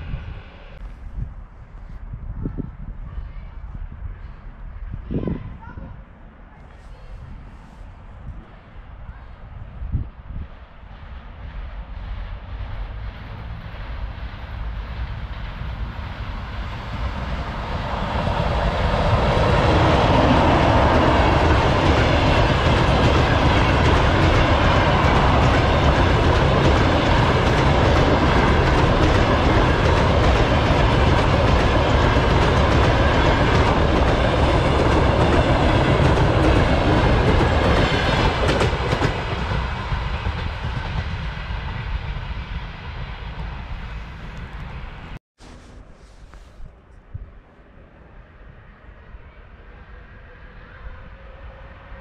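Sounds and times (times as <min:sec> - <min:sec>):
train passing: 0:00.0 - 0:52.0.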